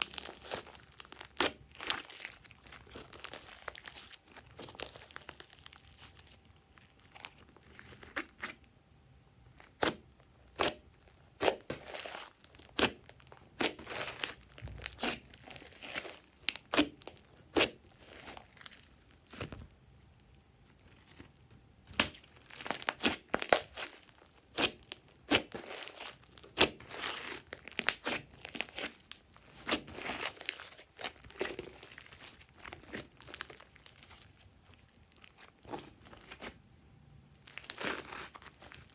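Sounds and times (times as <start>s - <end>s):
hands squishing sticky slime: 0.0s - 8.6s, 9.5s - 19.7s, 21.8s - 36.6s, 37.4s - 38.9s.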